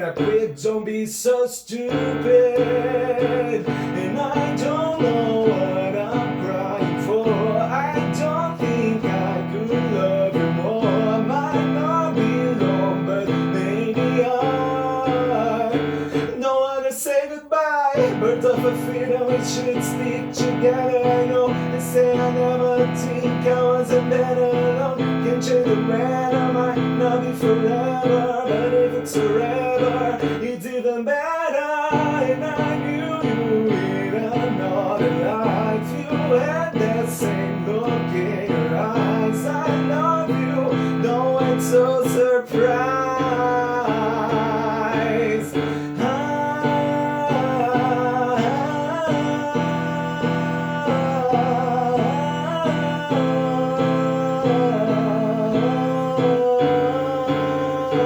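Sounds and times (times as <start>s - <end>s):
wordless melody: 1.9s - 16.6s, 18.0s - 30.8s, 31.8s - 58.0s.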